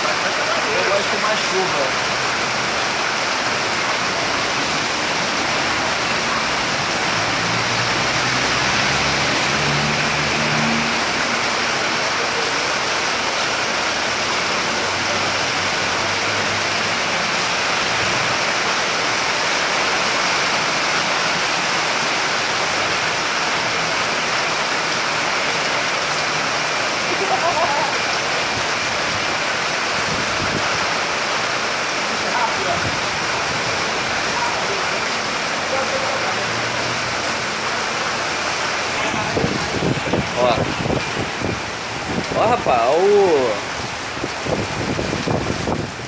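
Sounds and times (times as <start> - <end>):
car engines passing: 0.0 - 46.0
heavy rain pouring: 0.0 - 46.0.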